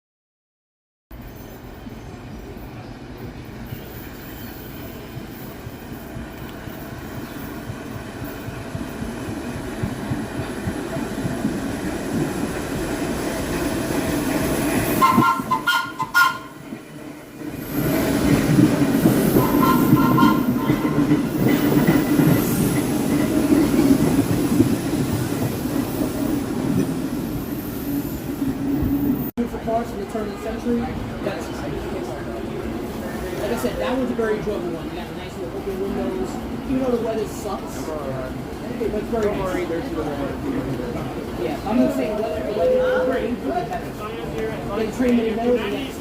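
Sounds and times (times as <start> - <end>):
subway train rumbling on rails: 1.1 - 46.0.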